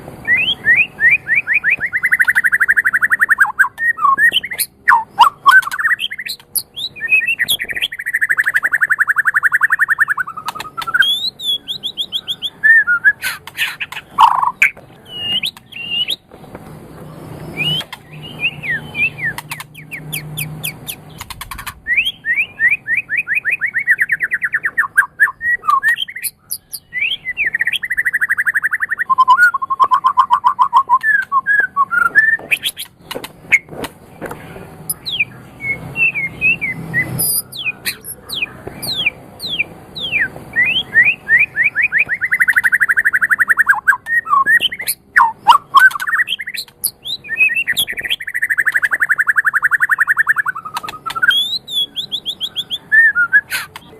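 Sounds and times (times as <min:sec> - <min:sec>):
bird singing: 0:00.0 - 0:53.9.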